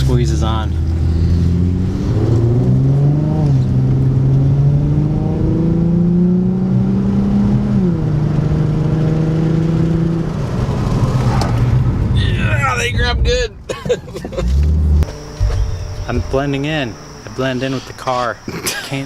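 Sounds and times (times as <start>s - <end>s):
car engine accelerating: 0.0s - 18.5s.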